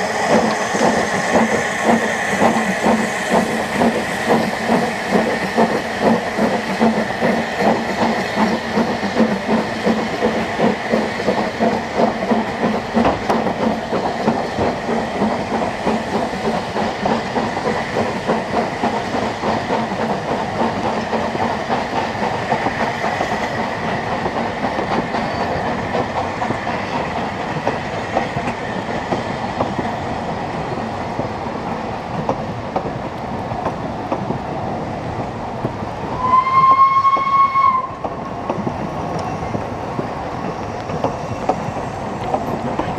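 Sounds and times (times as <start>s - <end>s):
carriages clattering on rails: 0.0s - 42.9s
steam locomotive exhaust beats: 0.0s - 42.9s.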